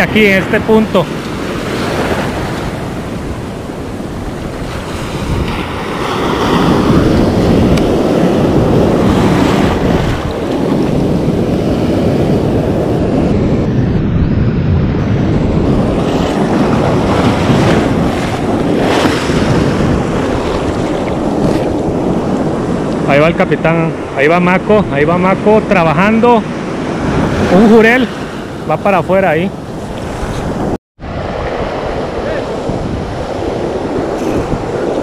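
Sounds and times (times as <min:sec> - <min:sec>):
breaking surf: 0:00.0 - 0:35.0
wind buffeting microphone: 0:00.0 - 0:35.0.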